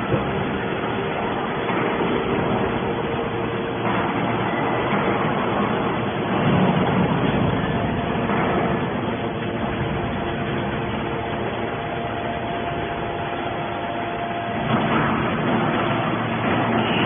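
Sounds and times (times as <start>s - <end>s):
scrap-metal baler machinery running: 0.0s - 17.0s.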